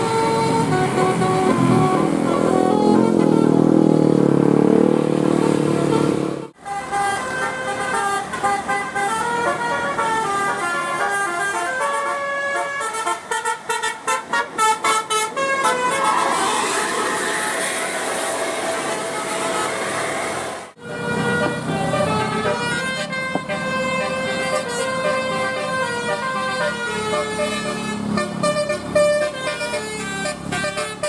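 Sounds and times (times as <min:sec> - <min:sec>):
musical bus air horn: 0:00.0 - 0:04.0, 0:05.3 - 0:31.0.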